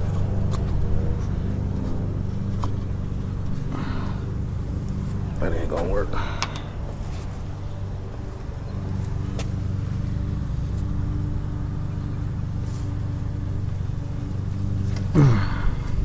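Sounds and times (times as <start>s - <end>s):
motor idling hum: 0.0s - 16.0s.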